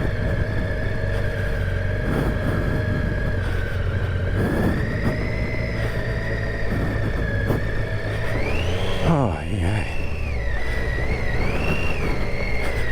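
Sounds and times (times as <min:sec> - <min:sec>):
motorcycle engine low revs: 0:00.0 - 0:12.9.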